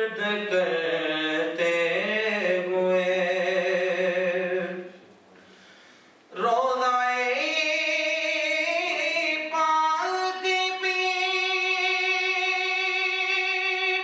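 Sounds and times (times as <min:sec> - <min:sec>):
man singing unaccompanied: 0:00.0 - 0:05.0, 0:06.3 - 0:14.0.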